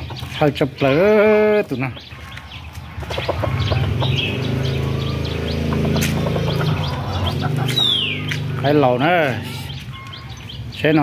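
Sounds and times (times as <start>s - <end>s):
bird chirps: 0.0s - 11.0s.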